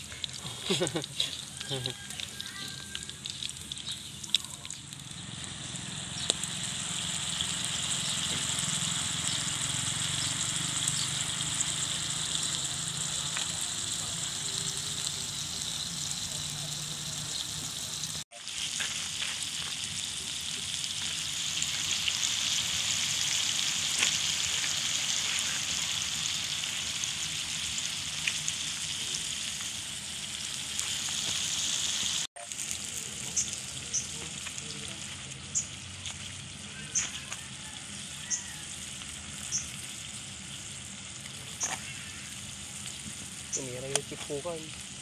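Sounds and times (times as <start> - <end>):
meat sizzling in a wok: 0.0 - 45.0.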